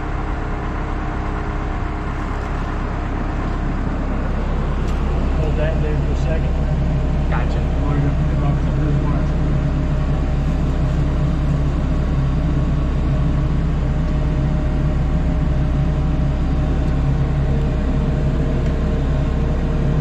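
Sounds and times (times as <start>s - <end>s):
machine engine droning: 0.0s - 20.0s.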